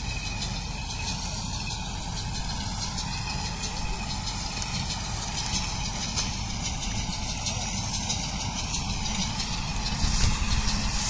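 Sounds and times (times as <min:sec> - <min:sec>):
faint machinery ticks: 0:00.0 - 0:11.0
tractor running: 0:00.0 - 0:11.0.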